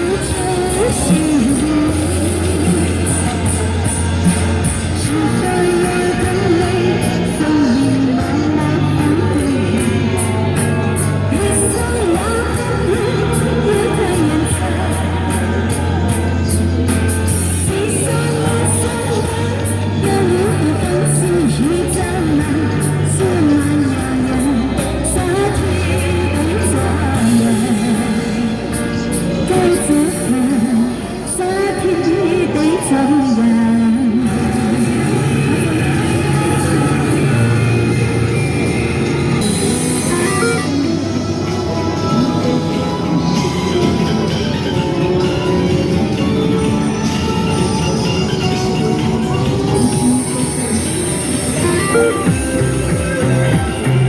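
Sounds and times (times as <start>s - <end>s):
musical accompaniment with bass: 0.0s - 54.0s
person singing pop song: 0.0s - 54.0s.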